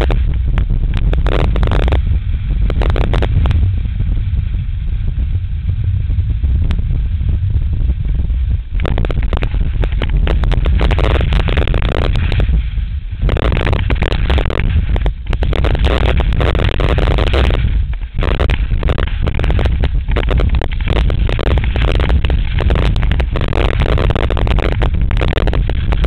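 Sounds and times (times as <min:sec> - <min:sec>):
skis scraping on hard snow: 0:00.0 - 0:26.0
wind buffeting microphone: 0:00.0 - 0:26.0.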